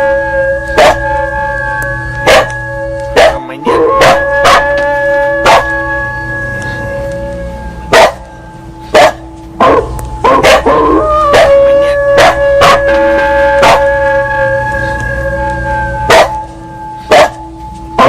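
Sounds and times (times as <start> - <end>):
dog howling: 0.0 - 8.3, 8.9 - 18.0
metal temple bell ringing: 0.0 - 18.0.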